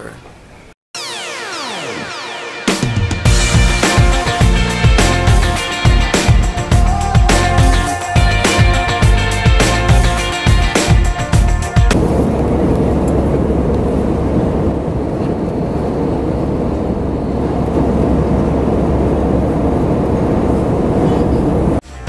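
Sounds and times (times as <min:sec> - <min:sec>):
jet engine and airflow drone: 0:01.0 - 0:06.7, 0:09.9 - 0:22.0
low hum: 0:01.0 - 0:22.0.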